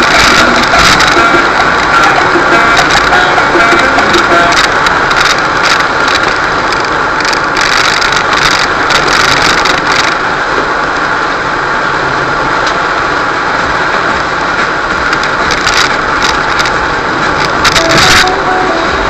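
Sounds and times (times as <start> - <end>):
van engine and tyre noise: 0.0 - 19.0.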